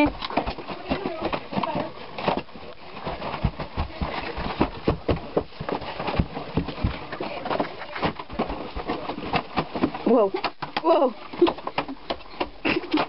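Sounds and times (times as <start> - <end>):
rapid thumps and knocks: 0.0 - 13.0.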